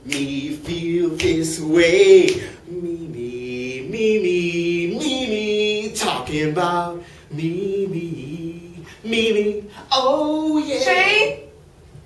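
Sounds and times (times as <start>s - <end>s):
man singing unaccompanied: 0.0s - 11.6s.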